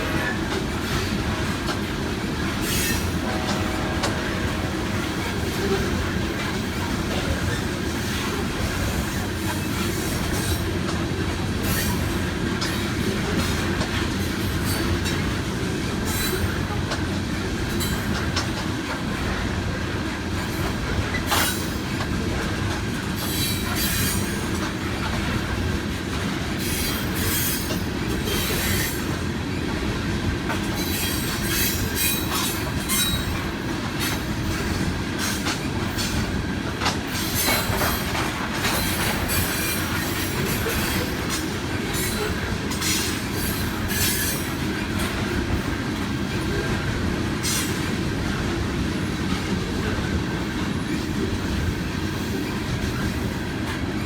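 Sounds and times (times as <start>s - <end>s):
rail clatter: 0.0s - 54.0s
train cars rumbling past: 0.0s - 54.0s.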